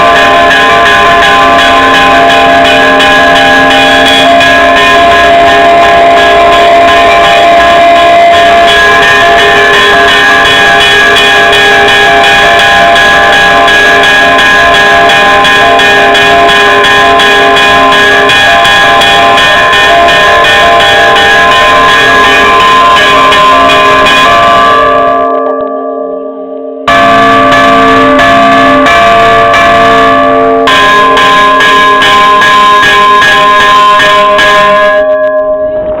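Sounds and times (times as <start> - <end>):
church bells ringing rapidly: 0.0 - 36.0.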